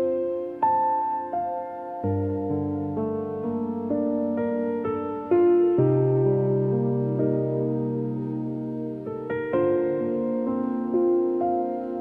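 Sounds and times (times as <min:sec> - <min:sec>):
soft piano-like keyboard music: 0:00.0 - 0:12.0.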